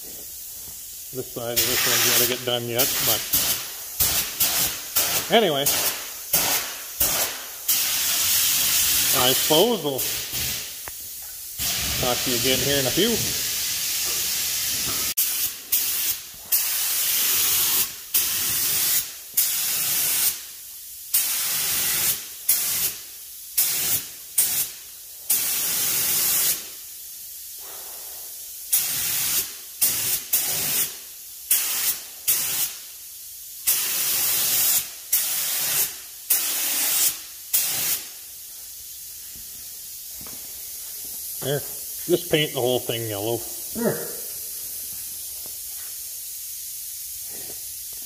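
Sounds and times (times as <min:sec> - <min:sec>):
faint steady hiss: 0:00.0 - 0:48.0
paint spray gun hissing: 0:00.0 - 0:48.0.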